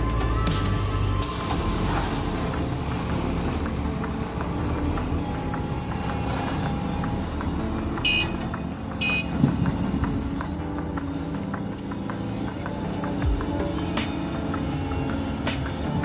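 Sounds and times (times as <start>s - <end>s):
excavator diesel engine under load: 0.0s - 16.0s.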